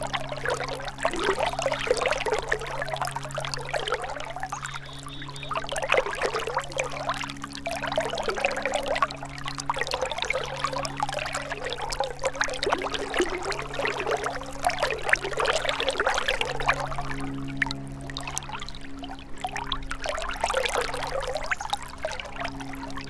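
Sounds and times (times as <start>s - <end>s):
low steady hum: 0.0s - 23.0s
water trickling over stones: 0.0s - 23.0s.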